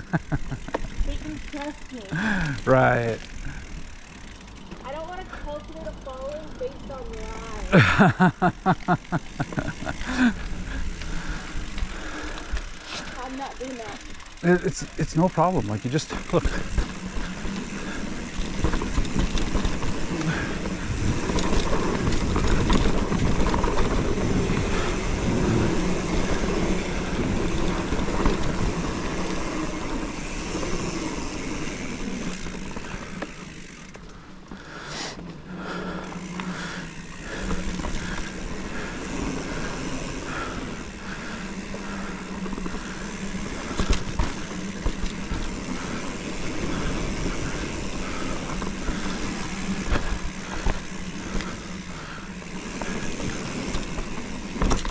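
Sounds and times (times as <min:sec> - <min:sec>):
bike tyres on dirt trail: 0:00.0 - 0:54.9.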